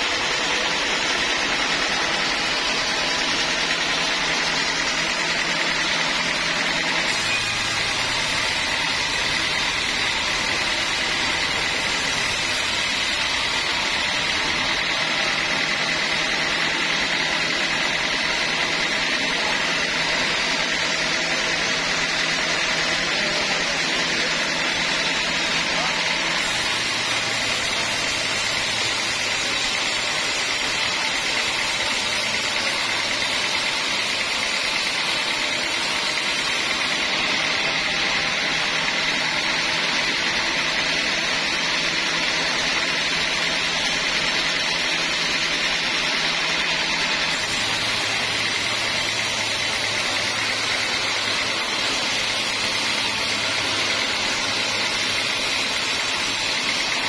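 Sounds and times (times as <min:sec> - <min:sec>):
band sawmill cutting log: 0:00.0 - 0:57.0.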